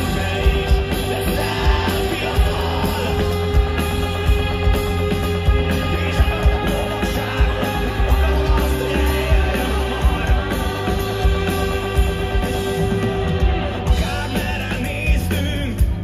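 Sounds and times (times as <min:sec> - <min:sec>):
drum beat: 0:00.0 - 0:16.0
live rock band: 0:00.0 - 0:16.0.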